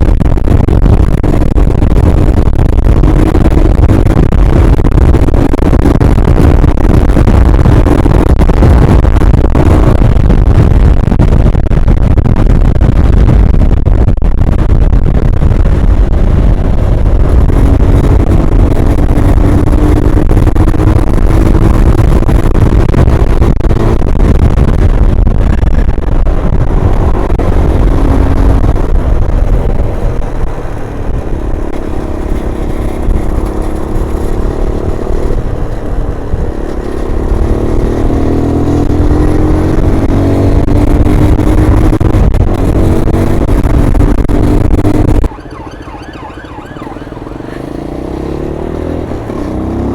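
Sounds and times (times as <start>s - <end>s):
motorcycle engine running: 0.0s - 49.9s
wind noise rushing: 0.0s - 49.9s.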